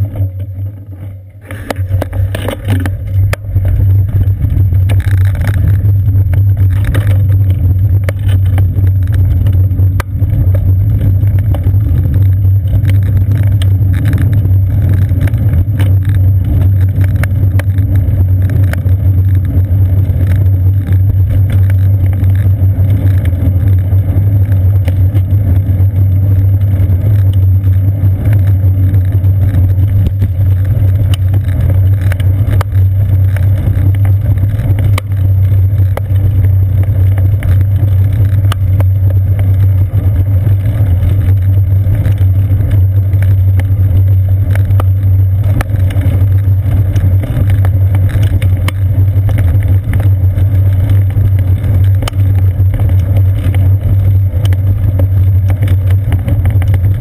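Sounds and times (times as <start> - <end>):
low rumble of wind and road: 0.0 - 57.0
small clicks and rattles: 0.0 - 57.0.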